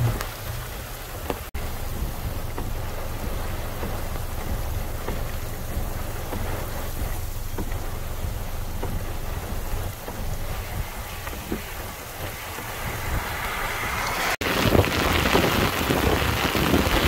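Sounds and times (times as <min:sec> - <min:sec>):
car low rumble: 0:00.0 - 0:17.0
heavy rain on a car: 0:00.0 - 0:17.0.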